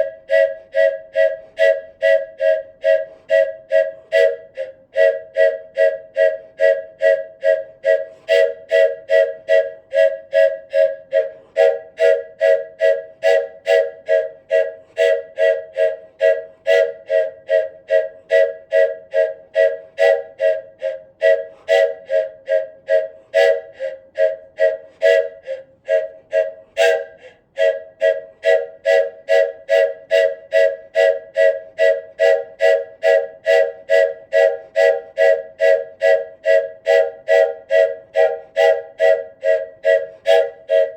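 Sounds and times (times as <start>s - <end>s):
wooden train whistle pulsing: 0.0s - 40.9s.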